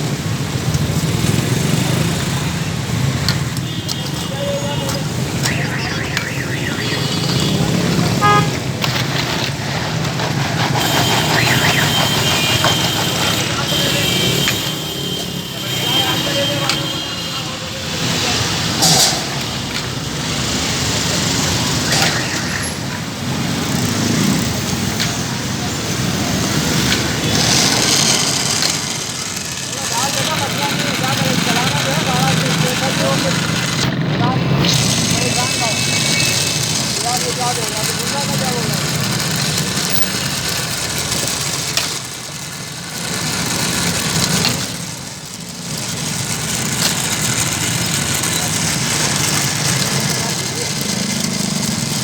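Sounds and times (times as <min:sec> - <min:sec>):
street traffic: 0:00.0 - 0:52.0
background chatter: 0:01.6 - 0:24.5, 0:25.1 - 0:52.0.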